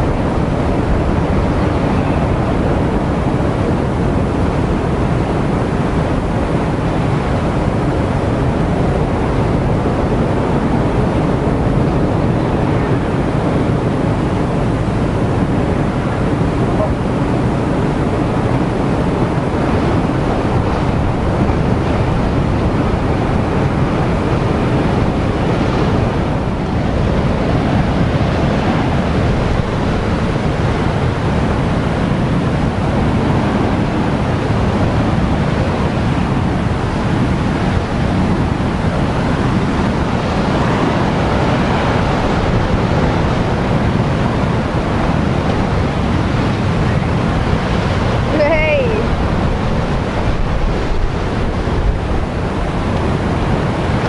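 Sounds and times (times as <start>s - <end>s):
surf breaking on rocks: 0.0s - 54.0s
wind buffeting microphone: 0.0s - 54.0s.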